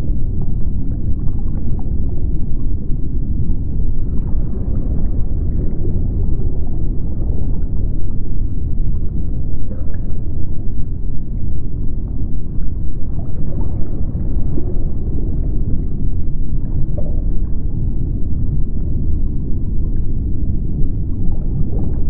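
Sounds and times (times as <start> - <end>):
deep underwater rumble: 0.0 - 22.0.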